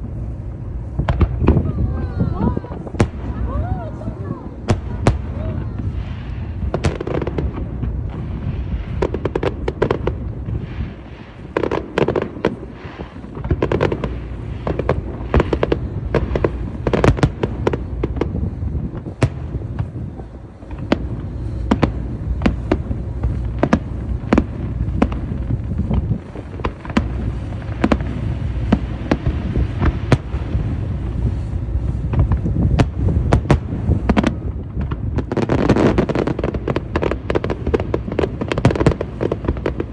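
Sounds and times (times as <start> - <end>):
fireworks cracks and booms: 0.0 - 39.9
low rumble of bursting shells: 0.0 - 39.9.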